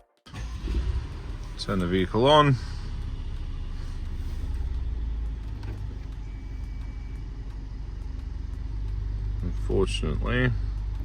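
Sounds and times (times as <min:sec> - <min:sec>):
car engine idling: 0:00.3 - 0:11.0.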